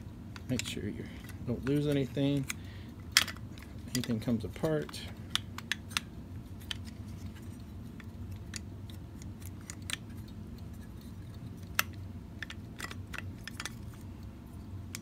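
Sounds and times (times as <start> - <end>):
low steady hum: 0.0 - 15.0
small parts clicking and tapping: 0.3 - 14.1.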